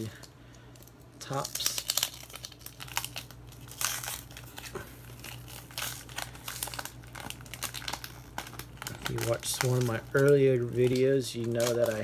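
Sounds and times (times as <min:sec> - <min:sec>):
card pack wrapper tearing and crinkling: 0:00.0 - 0:12.0.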